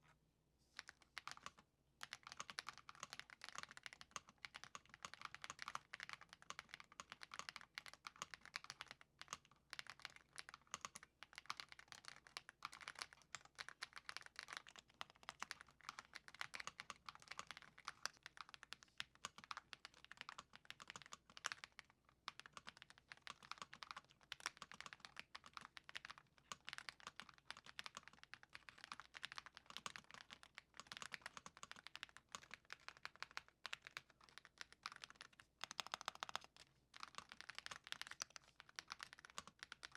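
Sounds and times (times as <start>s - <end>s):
fast mechanical keyboard typing: 0.8s - 39.9s.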